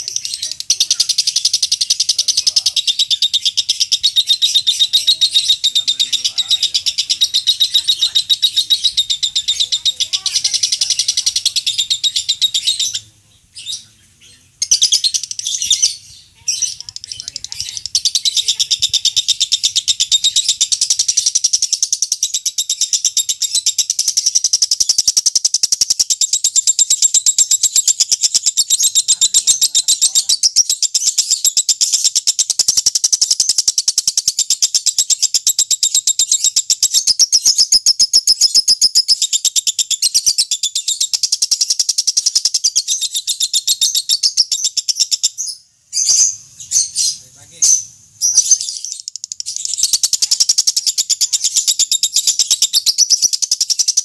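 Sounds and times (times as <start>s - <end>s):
lovebird chattering: 0.0s - 54.0s.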